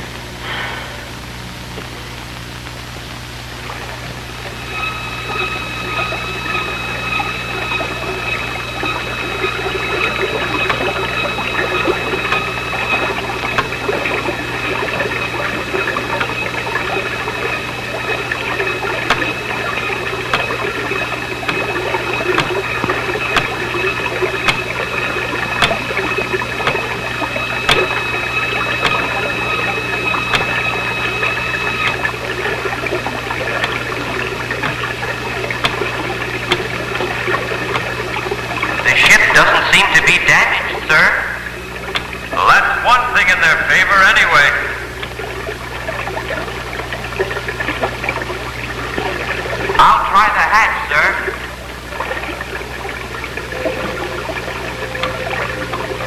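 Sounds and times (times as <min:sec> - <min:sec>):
steady high-pitched tone: 0:00.0 - 0:56.0
underwater bubbling: 0:00.0 - 0:56.0.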